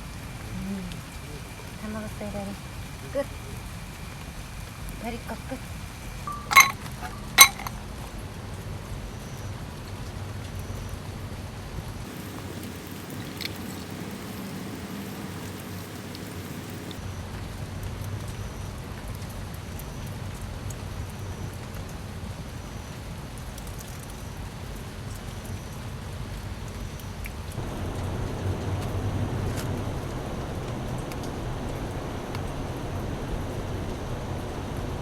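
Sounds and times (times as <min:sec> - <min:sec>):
steady rain falling: 0:00.0 - 0:06.2, 0:06.9 - 0:35.0.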